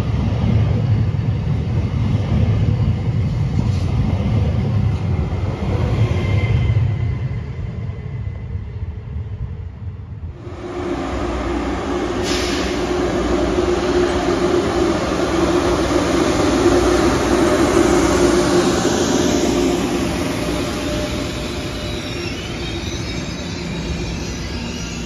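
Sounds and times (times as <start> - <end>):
high-speed train rumbling past: 0.0 - 25.0.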